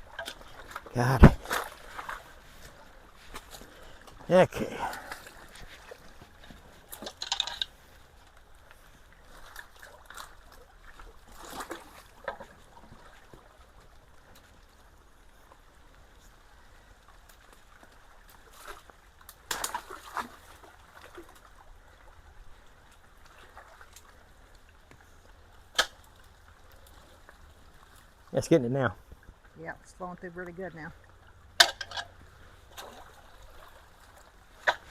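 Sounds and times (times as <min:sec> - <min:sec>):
water sloshing splashes: 0:00.0 - 0:08.0, 0:09.2 - 0:14.6, 0:17.4 - 0:28.4, 0:29.0 - 0:34.9
water trickling through culvert: 0:00.0 - 0:34.9.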